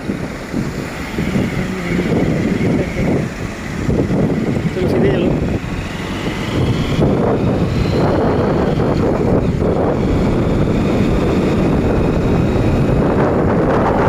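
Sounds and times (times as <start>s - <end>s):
motorbike running: 0.0s - 14.0s
wind rushing over microphone: 0.0s - 14.0s.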